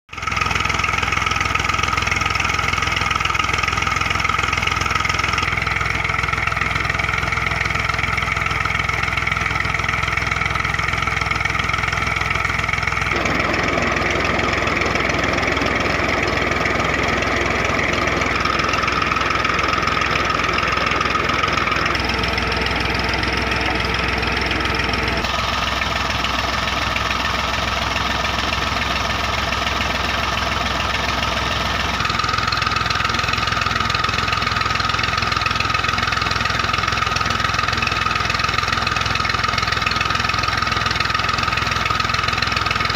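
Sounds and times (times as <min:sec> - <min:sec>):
tractor diesel engine idling: 0:00.1 - 0:42.9.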